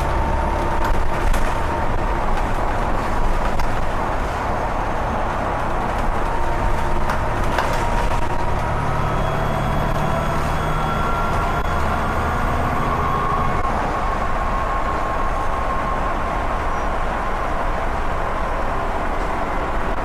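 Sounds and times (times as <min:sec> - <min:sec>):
diesel bus engine rumbling: 0:00.0 - 0:20.0.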